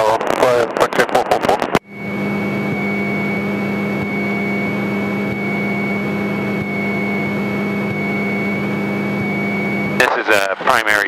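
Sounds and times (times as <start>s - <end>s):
thin high whine: 0.4s - 11.0s
airplane piston engine droning: 1.8s - 11.0s.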